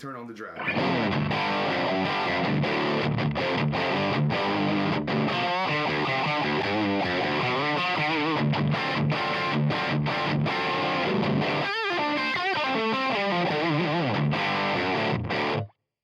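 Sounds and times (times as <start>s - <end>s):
overdriven electric guitar riffs: 0.6s - 15.8s.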